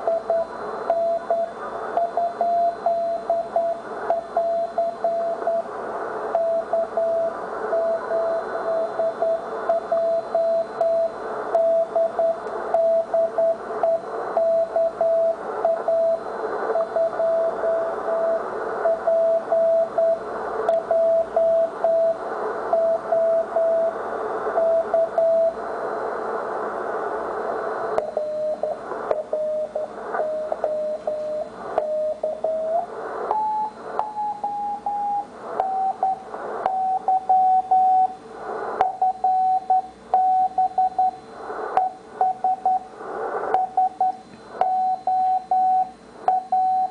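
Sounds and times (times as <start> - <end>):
morse code beeps: 0.0 - 5.7, 6.4 - 23.9, 24.6 - 25.6, 28.0 - 38.2, 38.8 - 41.2, 41.8 - 42.9, 43.6 - 46.9
radio band hiss: 0.0 - 40.1, 40.7 - 44.6.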